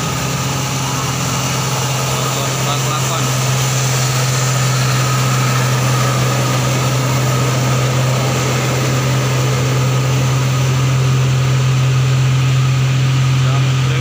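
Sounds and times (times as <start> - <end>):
diesel truck engine drone: 0.0 - 14.0.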